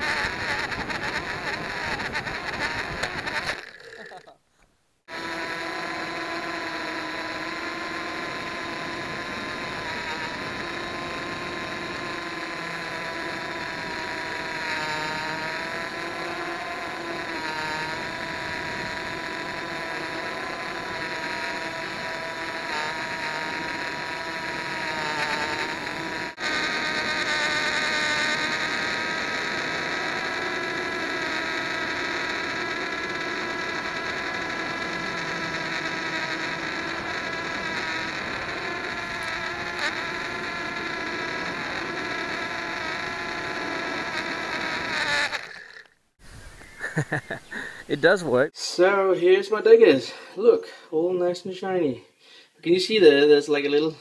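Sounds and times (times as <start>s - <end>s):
quadcopter propellers whining: 0.0s - 4.2s, 5.1s - 45.9s.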